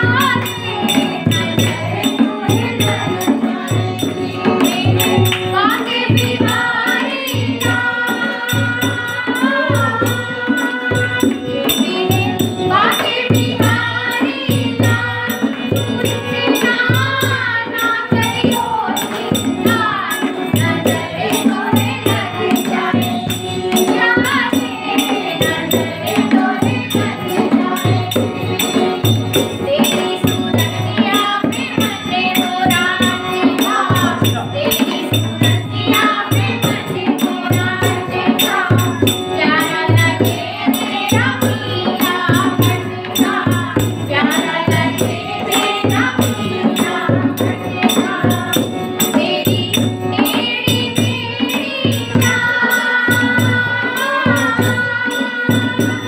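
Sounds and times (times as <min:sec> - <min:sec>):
women singing together: 0:00.0 - 0:56.0.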